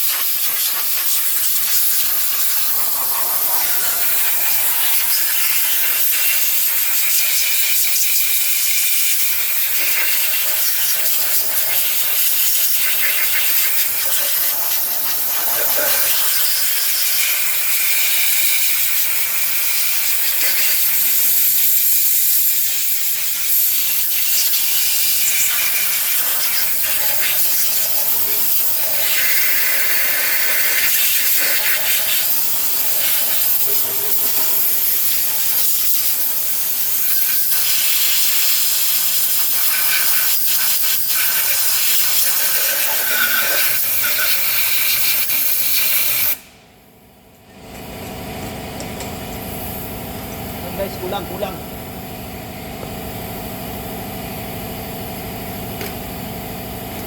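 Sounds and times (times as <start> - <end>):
pressure washer jet hissing: 0.0 - 46.4.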